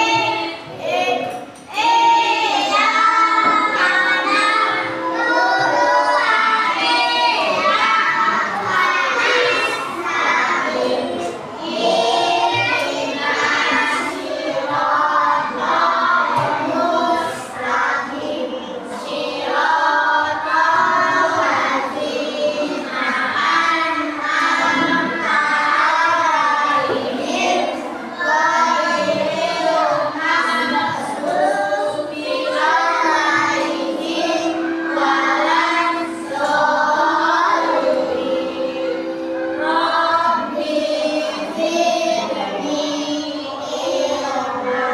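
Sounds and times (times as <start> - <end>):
children singing in unison: 0.0 - 44.9.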